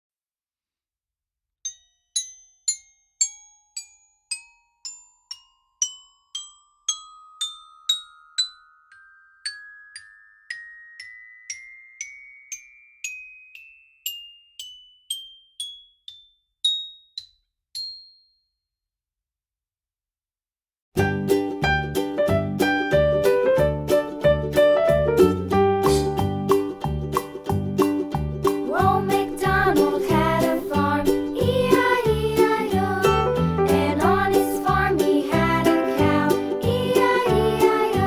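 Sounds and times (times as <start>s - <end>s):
glockenspiel notes rising scale: 1.7s - 18.1s, 21.0s - 38.0s.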